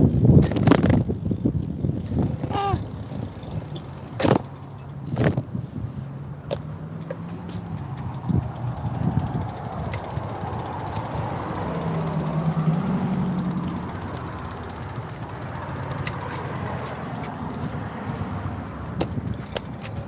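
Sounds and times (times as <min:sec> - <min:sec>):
motorbike engine running: 0:00.0 - 0:05.6, 0:06.6 - 0:20.0
road noise: 0:00.0 - 0:20.0.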